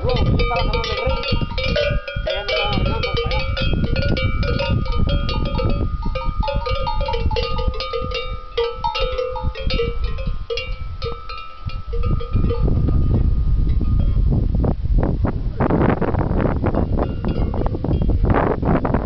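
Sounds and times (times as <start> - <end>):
cattle bells clanking: 0.0 - 14.3, 16.8 - 18.1.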